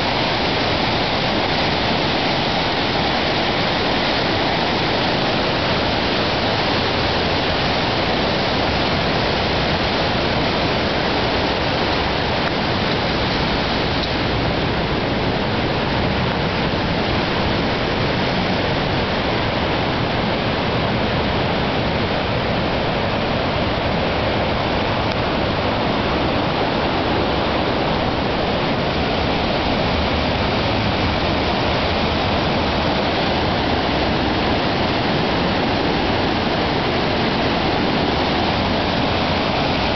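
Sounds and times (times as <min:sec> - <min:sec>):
rush of flooded stream: 0:00.0 - 0:39.9.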